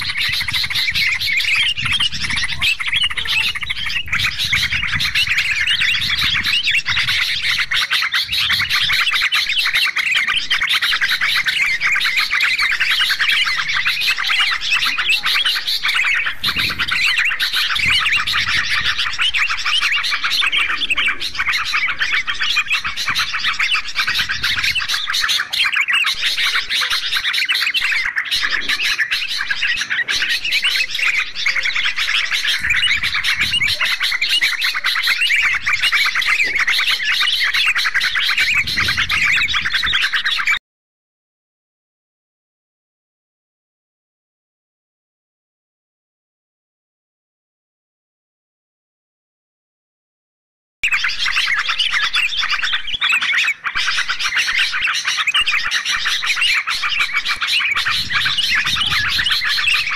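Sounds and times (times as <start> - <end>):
bulbuls calling and chattering: 0.0 - 40.6, 50.8 - 59.9.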